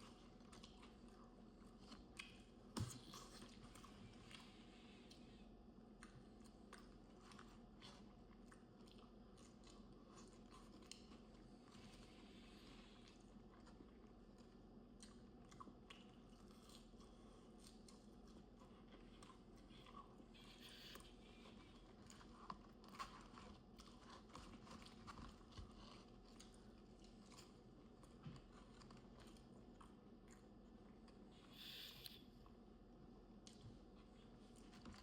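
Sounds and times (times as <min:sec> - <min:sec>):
chewing crunchy food: 0:00.0 - 0:35.0
low steady hum: 0:00.0 - 0:35.0.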